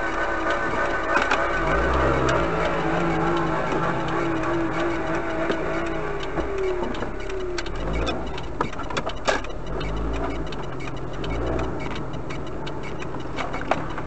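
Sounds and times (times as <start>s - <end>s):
car engine hum: 0.0s - 14.0s
road noise: 0.0s - 14.0s
light clicks and ticks: 0.2s - 14.0s.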